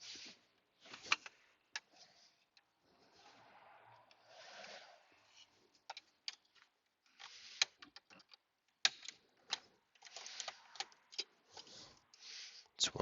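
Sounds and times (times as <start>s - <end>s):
rustling and scraping: 0.0s - 12.7s.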